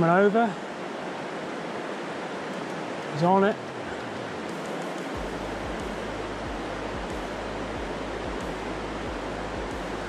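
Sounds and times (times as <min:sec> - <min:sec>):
river water over stones: 0:00.0 - 0:10.0.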